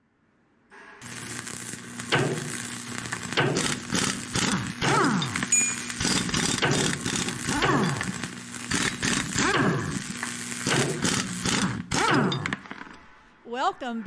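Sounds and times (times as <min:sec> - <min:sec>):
hiss of sparks crackling: 0:00.8 - 0:12.9.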